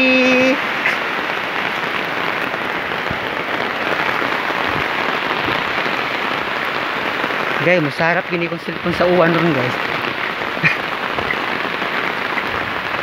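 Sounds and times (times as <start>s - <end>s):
heavy rain on concrete: 0.0s - 13.0s.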